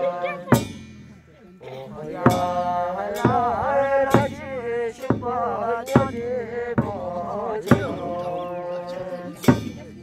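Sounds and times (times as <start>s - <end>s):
frame drum beats: 0.0s - 10.0s
ritual chanting: 0.0s - 10.0s.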